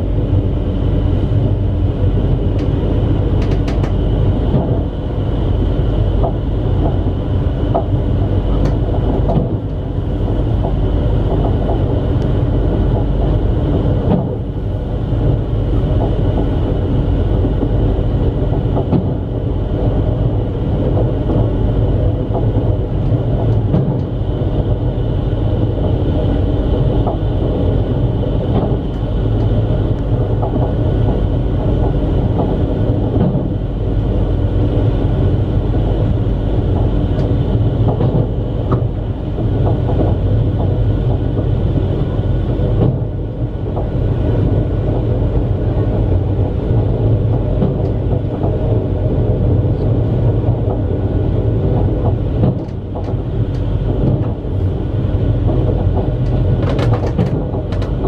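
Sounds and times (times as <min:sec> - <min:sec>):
train running noise inside carriage: 0:00.0 - 0:58.0.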